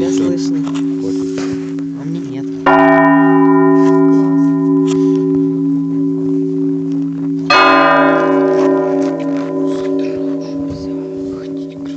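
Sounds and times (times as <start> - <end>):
church bells ringing: 0.0 - 11.9.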